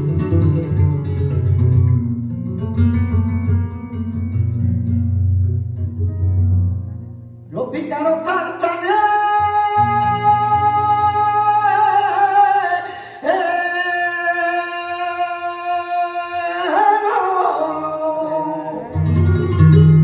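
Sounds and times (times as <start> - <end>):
man singing flamenco: 0.0 - 6.5, 7.5 - 20.0
flamenco guitar: 0.0 - 20.0.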